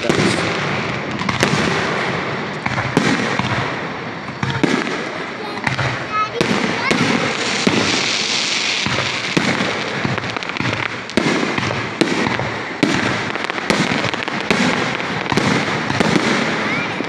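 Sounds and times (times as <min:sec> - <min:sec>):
continuous noise of fireworks display: 0:00.0 - 0:17.0
fireworks bursting with bangs: 0:00.0 - 0:17.0.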